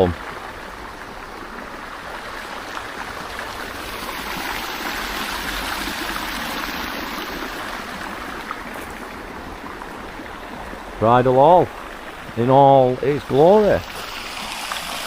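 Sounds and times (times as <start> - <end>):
fast-flowing stream rushing: 0.0 - 15.0.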